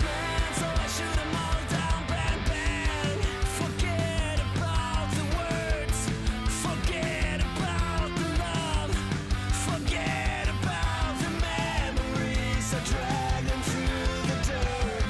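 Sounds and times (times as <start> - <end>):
rock song with steady beat: 0.0 - 15.0.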